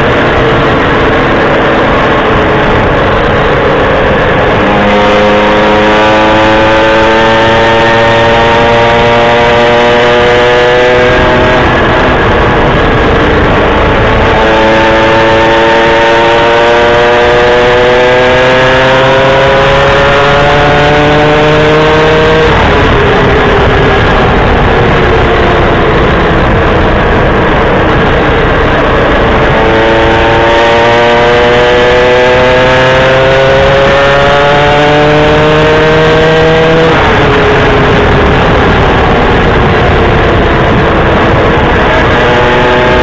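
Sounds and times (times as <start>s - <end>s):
loud rushing noise: 0.0s - 43.0s.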